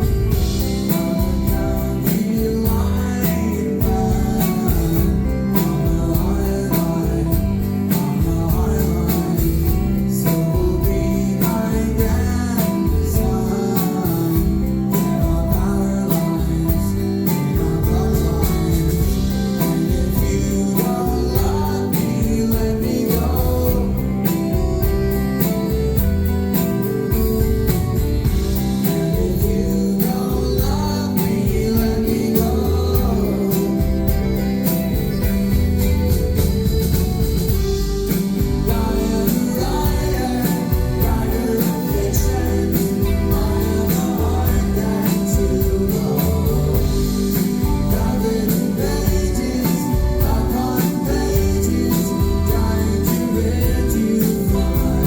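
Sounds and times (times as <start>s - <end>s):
person singing: 0.0s - 55.0s
steady drum beat: 0.0s - 55.0s
strummed guitar: 0.0s - 55.0s.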